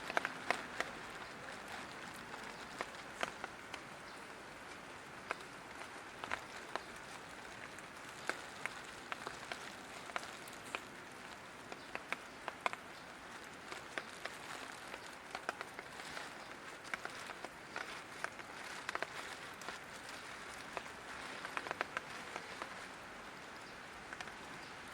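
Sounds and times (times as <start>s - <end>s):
light rain hissing: 0.0s - 24.9s
single raindrops ticking: 0.0s - 24.9s.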